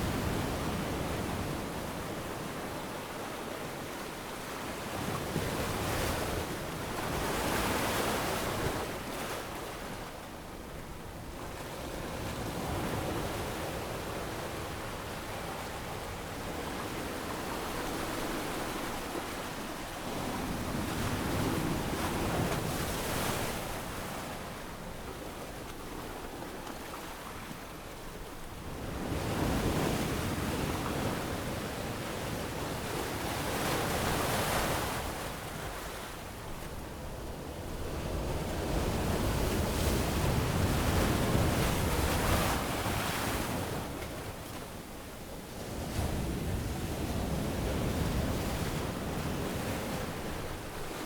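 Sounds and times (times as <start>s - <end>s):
wind: 0.0s - 51.0s.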